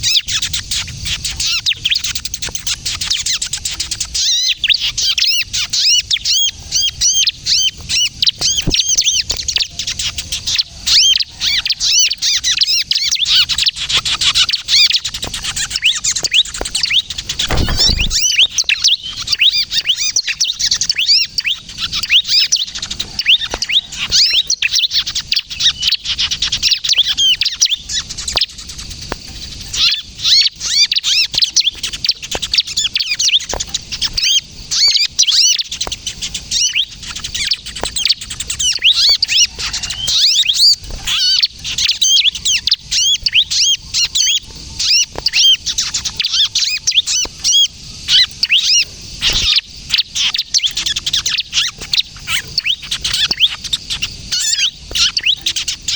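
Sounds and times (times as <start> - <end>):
bird chirps and twitters: 0.0 - 55.9.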